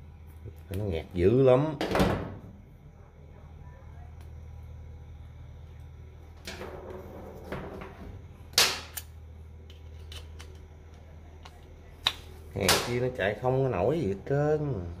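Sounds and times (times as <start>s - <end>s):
low hum: 2.4s - 15.0s.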